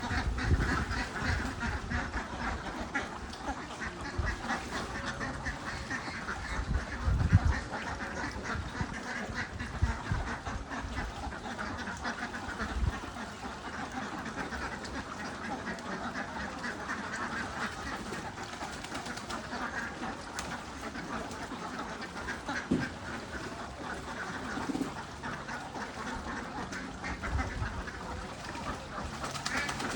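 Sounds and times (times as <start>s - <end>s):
ducks quacking: 0.0s - 29.9s.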